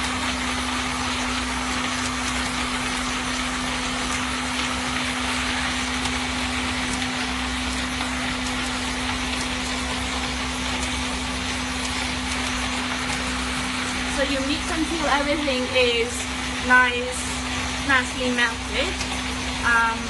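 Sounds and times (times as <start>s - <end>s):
immersion blender running: 0.0s - 20.0s.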